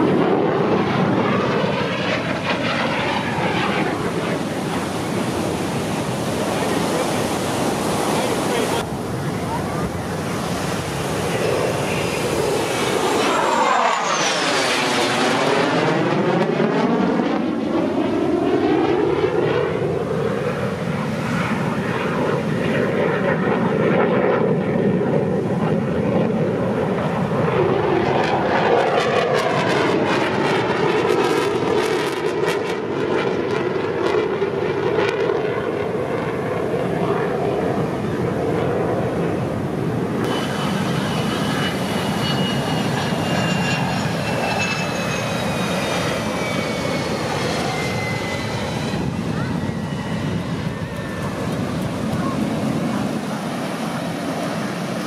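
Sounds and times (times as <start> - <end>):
high jet engine whine: 0.0 - 55.0
jet roar passing overhead: 0.0 - 55.0.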